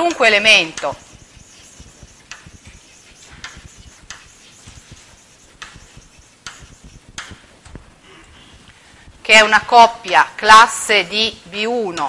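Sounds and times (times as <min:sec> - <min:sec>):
chalk tapping and scratching: 0:00.0 - 0:11.3.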